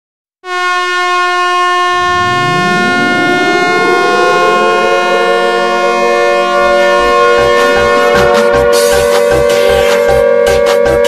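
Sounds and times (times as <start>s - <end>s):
goal horn blast: 0.5s - 10.4s
siren winding up: 1.7s - 10.6s.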